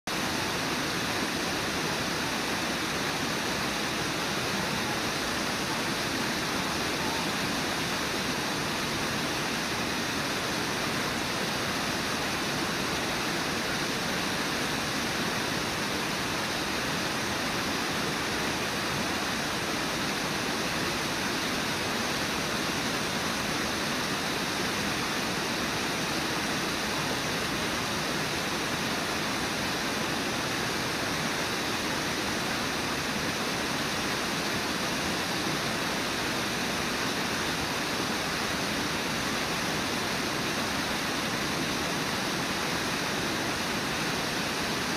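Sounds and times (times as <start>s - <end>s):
waterfall rushing: 0.1s - 44.9s
white-water rapids: 0.1s - 44.9s.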